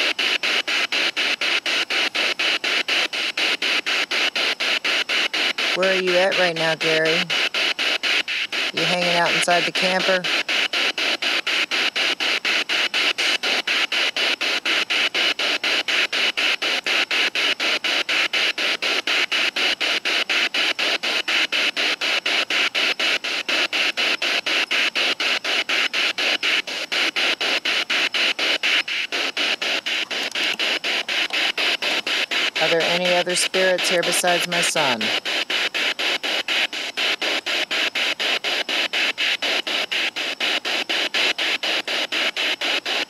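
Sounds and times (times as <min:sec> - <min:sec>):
broken snatches of radio sound: 0:00.0 - 0:19.4, 0:22.0 - 0:43.0
chopped radio static hiss: 0:00.0 - 0:43.0.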